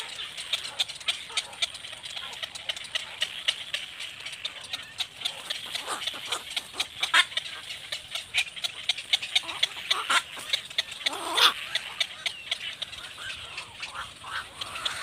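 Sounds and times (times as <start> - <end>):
birds chattering: 0.0 - 15.0
harsh bird calls: 0.0 - 15.0.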